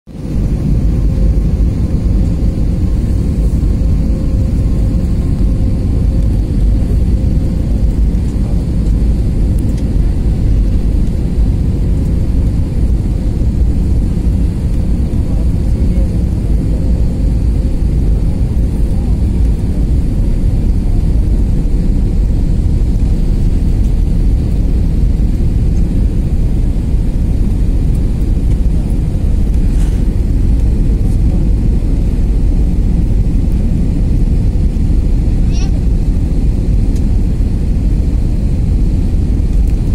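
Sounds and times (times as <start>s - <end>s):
faint steady whine: 0.1s - 39.9s
jet engine rumble in cabin: 0.1s - 39.9s.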